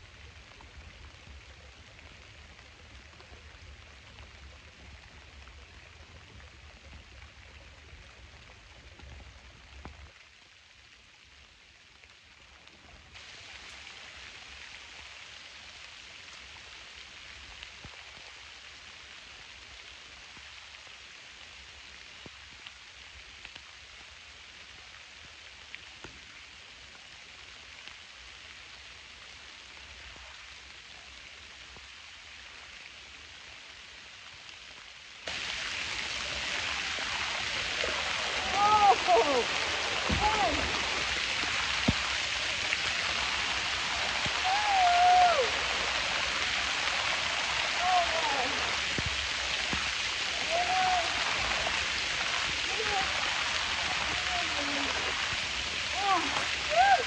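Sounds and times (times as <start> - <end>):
rain falling on a pond: 0.0 - 57.0.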